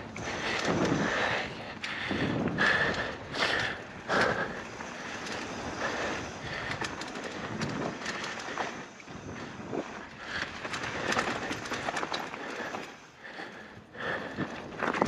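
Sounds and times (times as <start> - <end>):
bike chain and frame rattling: 0.0 - 13.4, 14.0 - 15.0
bike tyres rolling on dirt: 0.0 - 15.0.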